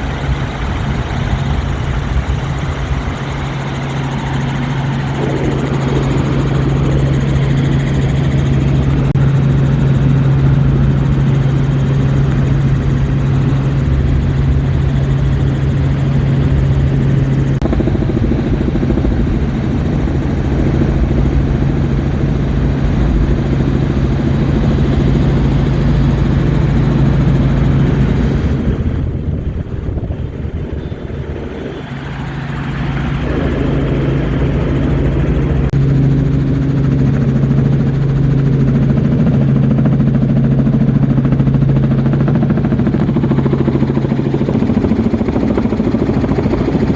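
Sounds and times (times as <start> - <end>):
helicopter rotor and engine hum: 0.0 - 46.9
rushing wind: 0.0 - 46.9.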